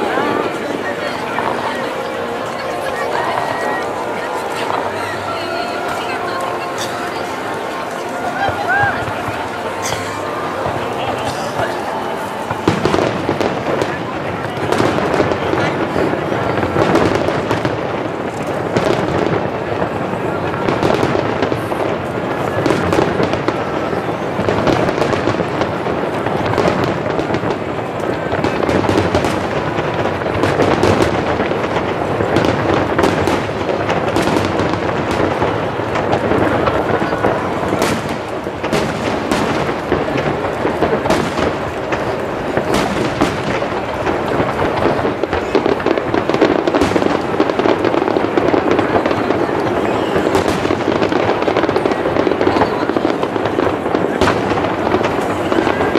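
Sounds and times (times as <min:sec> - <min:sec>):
fireworks booming: 0:00.0 - 0:55.9
fireworks cracking and crackling: 0:00.0 - 0:55.9.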